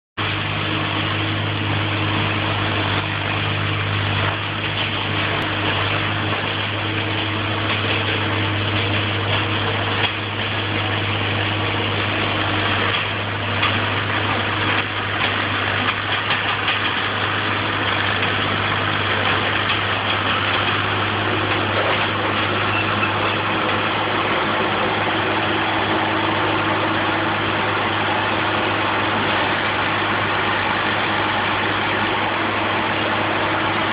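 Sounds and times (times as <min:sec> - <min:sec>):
tractor engine humming: 0:00.2 - 0:33.9.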